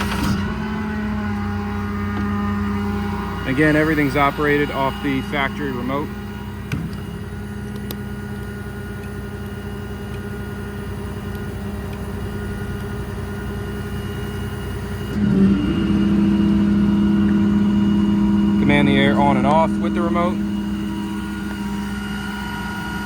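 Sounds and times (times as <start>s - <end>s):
air compressor running: 0.0s - 23.0s
diesel truck engine droning: 0.0s - 23.0s.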